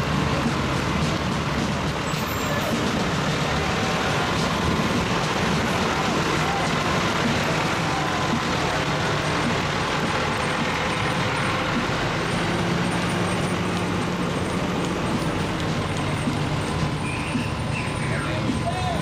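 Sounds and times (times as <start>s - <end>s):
fire truck engine running: 0.0s - 19.0s.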